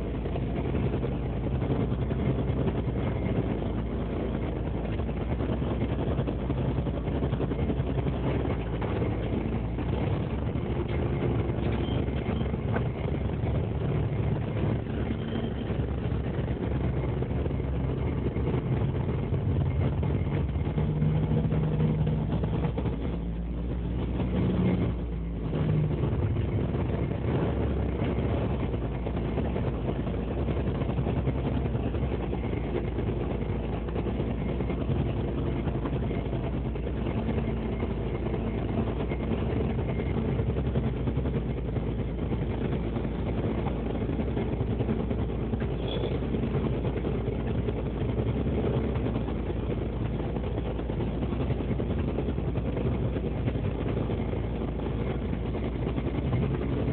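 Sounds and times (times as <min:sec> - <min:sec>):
boat engine and machinery drone: 0:00.0 - 0:56.9
higher machine hum: 0:00.0 - 0:56.9.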